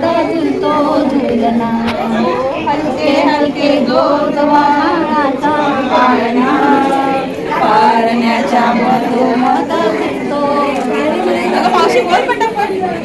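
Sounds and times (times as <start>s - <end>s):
women singing a lullaby: 0.0s - 13.0s.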